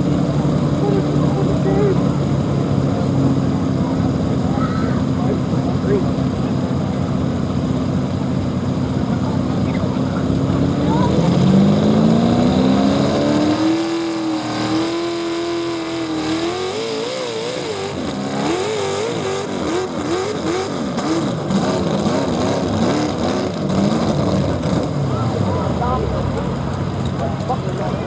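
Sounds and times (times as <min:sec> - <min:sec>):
truck engine revving under load: 0:00.0 - 0:28.0.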